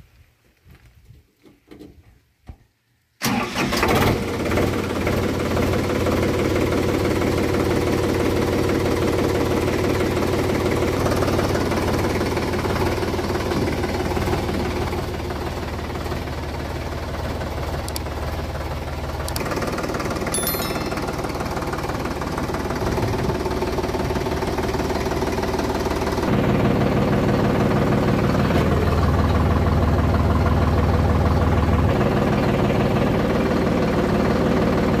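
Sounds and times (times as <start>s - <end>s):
tractor diesel engine starting: 3.2s - 35.0s.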